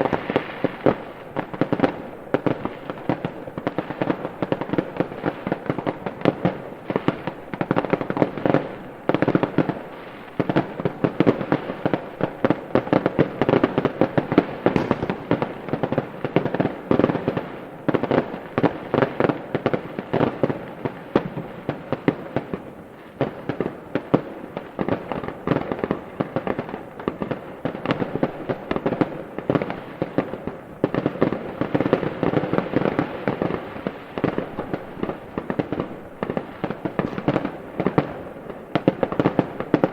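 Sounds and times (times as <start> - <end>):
fireworks popping and banging: 0.0 - 39.9.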